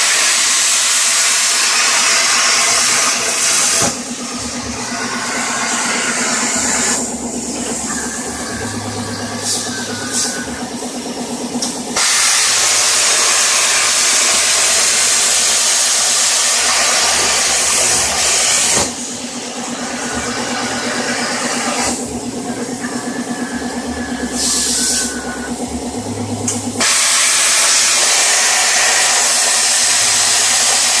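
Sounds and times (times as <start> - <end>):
plasma torch hissing: 0.0 - 10.5, 11.5 - 22.0, 22.9 - 25.2, 26.8 - 31.0
stepper motors humming: 1.0 - 31.0.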